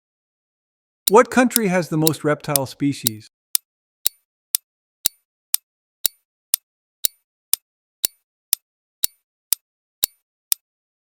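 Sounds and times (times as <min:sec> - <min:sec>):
countdown timer ticking: 0:01.1 - 0:10.6.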